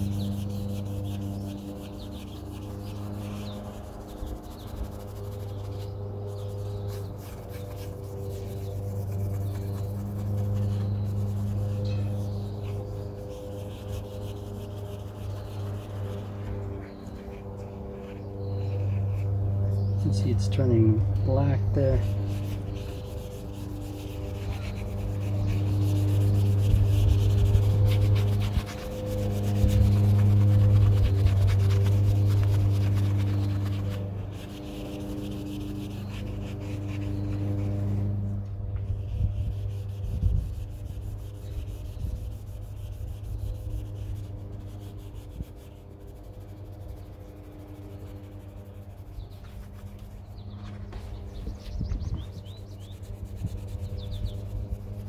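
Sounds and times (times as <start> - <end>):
cloth scrubbing metal wheel: 0.0 - 19.7, 21.6 - 38.4, 39.0 - 50.5, 52.4 - 55.0
steady low hum: 0.0 - 55.0.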